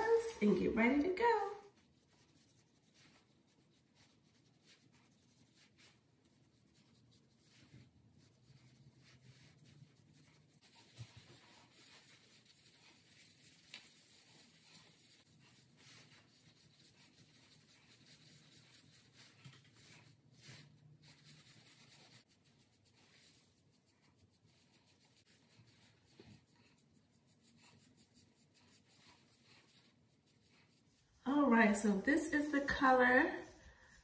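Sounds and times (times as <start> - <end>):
brush strokes on hair: 0.0 - 34.0
gloved hands rubbing: 0.0 - 34.0.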